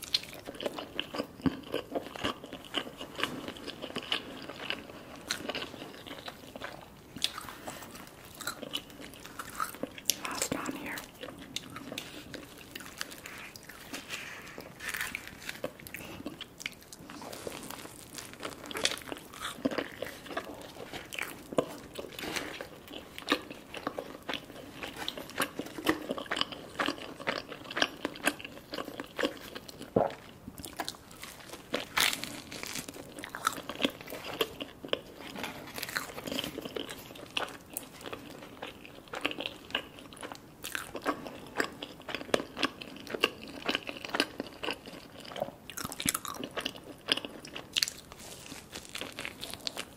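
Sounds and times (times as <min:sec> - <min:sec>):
person chewing: 0:00.0 - 0:49.9.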